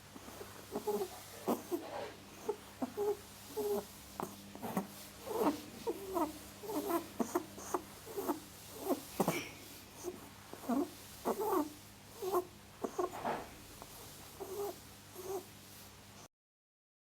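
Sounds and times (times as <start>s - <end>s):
rabbit making low calls: 0.2s - 15.5s.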